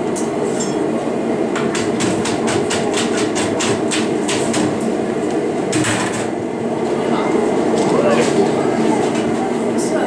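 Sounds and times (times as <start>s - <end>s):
furnace roar: 0.0s - 10.0s.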